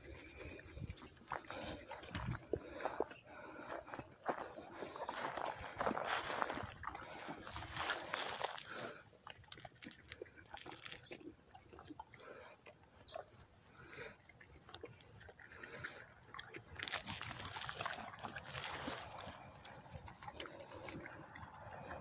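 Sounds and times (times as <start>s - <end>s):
dogs chewing grass: 0.0s - 22.0s.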